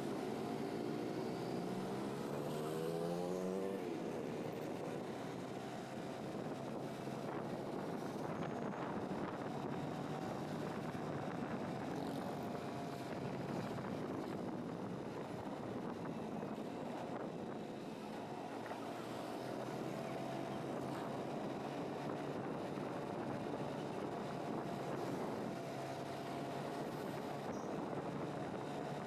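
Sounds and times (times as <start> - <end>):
road noise: 0.0 - 29.0
vehicle engine hum: 0.0 - 29.0.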